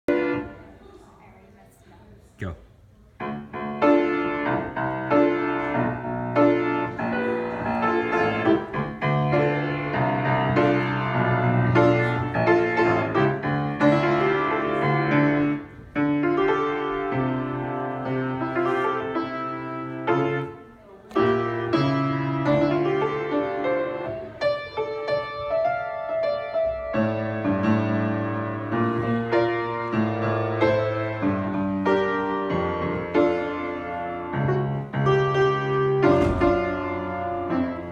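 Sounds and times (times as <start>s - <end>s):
solo grand piano: 0.1s - 1.0s, 3.2s - 37.9s.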